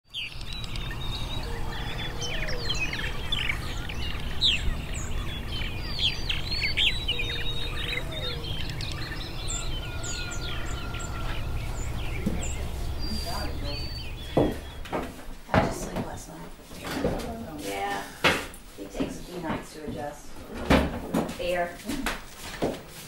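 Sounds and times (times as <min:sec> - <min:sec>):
songbirds chirping and trilling: 0:00.1 - 0:23.0.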